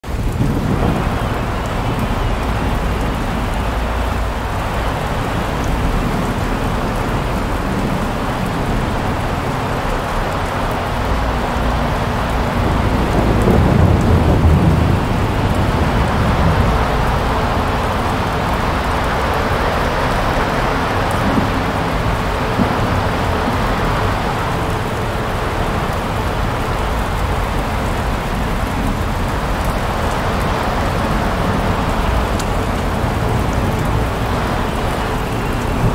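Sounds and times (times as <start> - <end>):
rain: 0.0 - 35.9
wind: 0.0 - 35.9.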